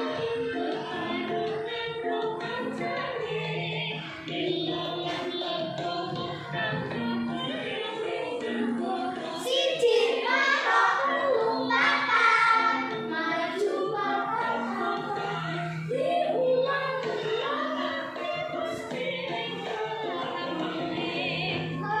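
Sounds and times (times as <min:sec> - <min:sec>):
accompanying music: 0:00.0 - 0:22.0
child singing a children's song: 0:00.0 - 0:22.0.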